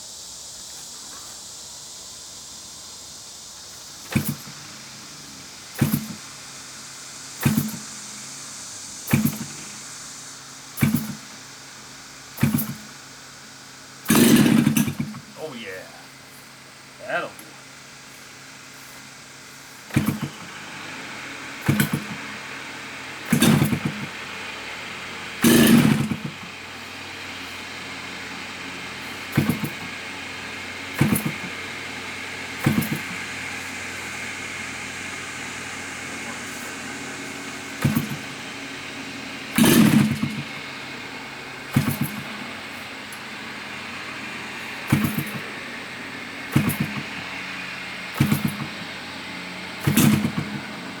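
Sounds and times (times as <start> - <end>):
model aircraft engine running: 3.5 - 51.0
short loud bursts of noise: 3.6 - 40.8, 41.6 - 50.8.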